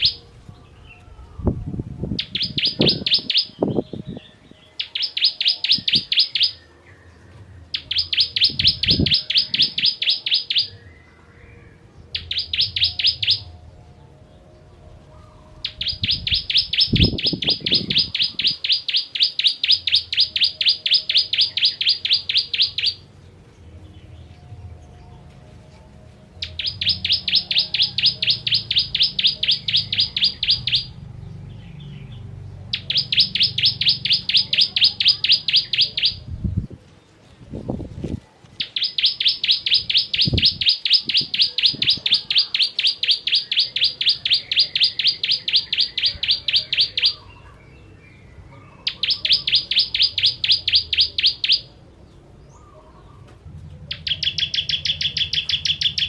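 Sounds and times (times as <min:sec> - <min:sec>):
bird singing sharp repeated notes: 0:00.0 - 0:13.7, 0:15.2 - 0:25.2, 0:26.2 - 0:36.8, 0:38.6 - 0:53.2, 0:53.8 - 0:56.0.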